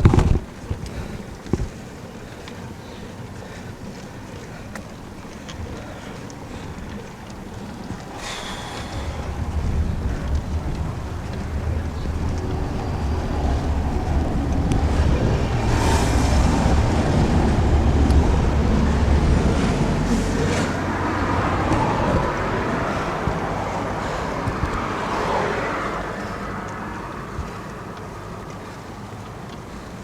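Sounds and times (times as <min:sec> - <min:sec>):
heavy engine low rumble: 0:00.0 - 0:30.0
road traffic passing: 0:00.5 - 0:30.0.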